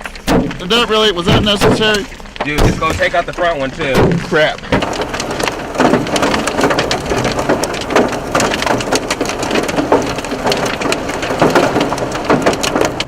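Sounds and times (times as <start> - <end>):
hailstones pelting a car: 0.0 - 13.0.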